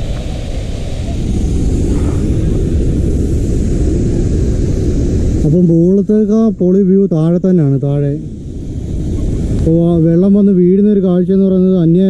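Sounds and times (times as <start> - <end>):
waterfall roaring: 0.0 - 11.3.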